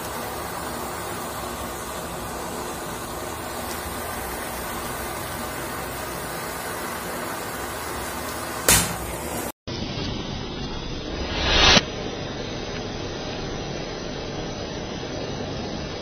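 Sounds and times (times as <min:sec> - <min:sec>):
gas torch flame hissing: 0:00.0 - 0:09.5, 0:11.1 - 0:16.0.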